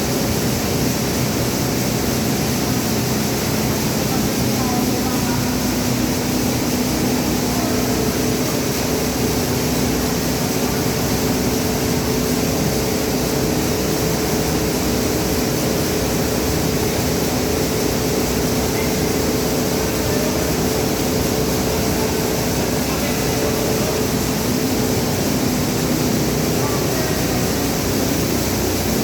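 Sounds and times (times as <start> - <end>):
grain dryer machine running: 0.0 - 29.0.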